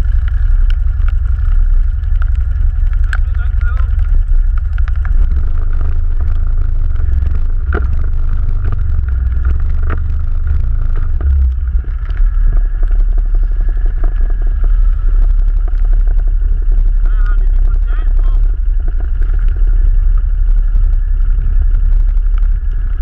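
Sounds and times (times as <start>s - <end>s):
quad bike engine rumbling: 0.0s - 23.0s.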